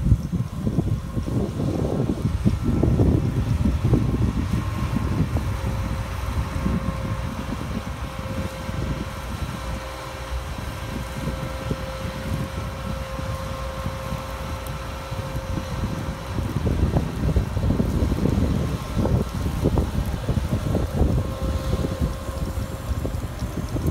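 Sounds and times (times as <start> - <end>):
combine harvester engine running: 0.0 - 23.9
steady machine whine: 0.0 - 23.9
wind buffeting microphone: 0.0 - 23.9.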